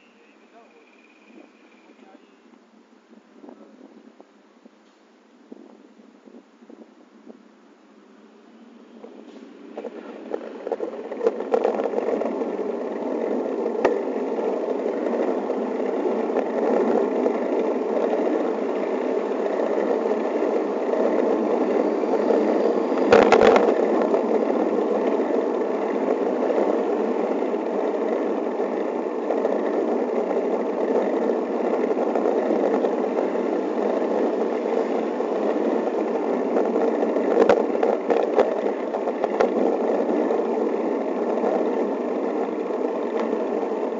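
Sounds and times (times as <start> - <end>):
wind and road noise: 0.0 - 43.9.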